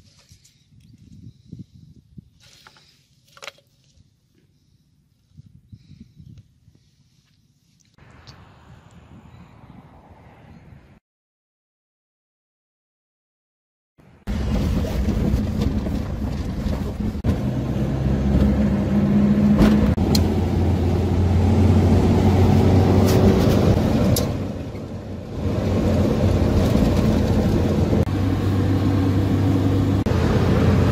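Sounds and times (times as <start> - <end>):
vehicle engine hum with road noise: 0.0 - 11.0, 14.0 - 30.9.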